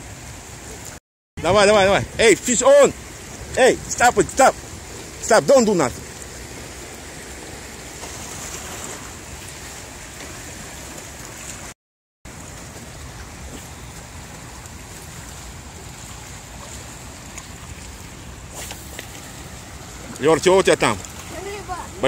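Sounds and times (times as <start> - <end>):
turbulent white water rushing: 0.0 - 22.0.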